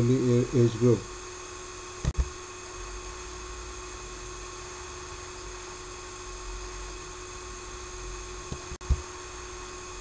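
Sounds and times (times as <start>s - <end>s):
hiss and electrical hum: 0.0s - 10.0s.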